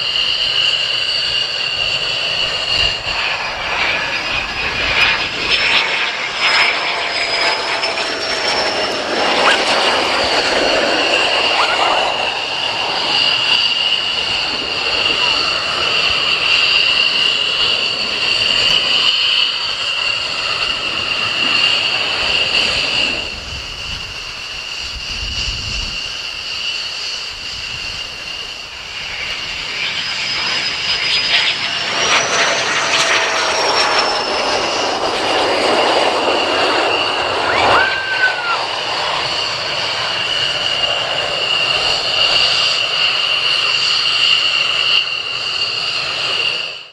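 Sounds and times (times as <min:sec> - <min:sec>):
jet engines whining: 0:00.0 - 0:46.9
jet passing overhead: 0:00.0 - 0:46.9.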